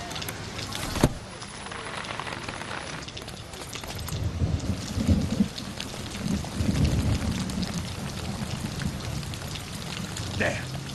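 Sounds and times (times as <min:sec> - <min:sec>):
heavy rain falling: 0:00.0 - 0:10.9.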